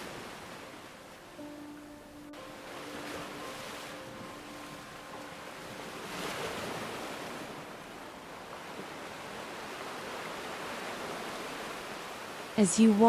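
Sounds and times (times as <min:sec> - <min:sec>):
ocean surf hissing: 0:00.0 - 0:13.0.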